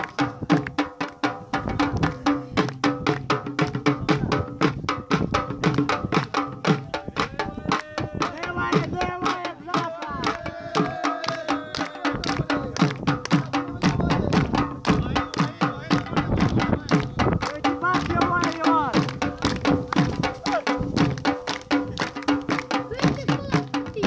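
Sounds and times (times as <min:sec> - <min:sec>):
fast drumbeats: 0:00.0 - 0:24.0.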